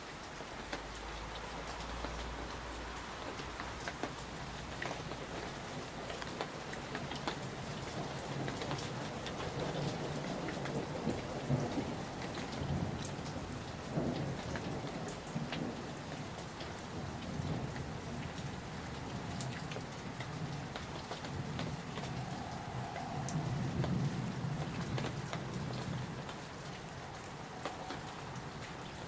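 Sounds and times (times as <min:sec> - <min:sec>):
heavy rain: 0:00.0 - 0:29.0
raindrops ticking on a surface: 0:00.0 - 0:29.0
distant thunder rumbling: 0:03.2 - 0:29.0.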